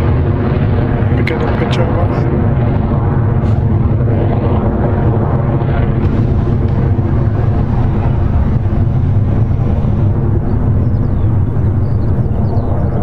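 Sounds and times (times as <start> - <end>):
rocket engines rumbling: 0.0 - 13.0.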